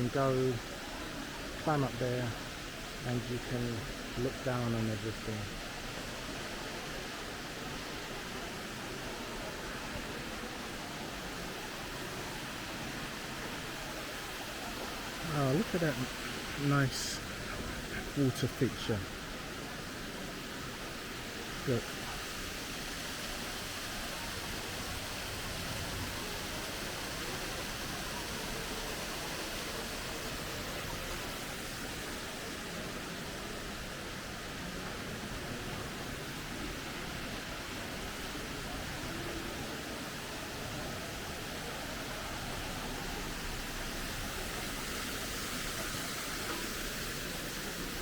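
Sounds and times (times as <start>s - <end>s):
water feature running: 0.0s - 48.0s.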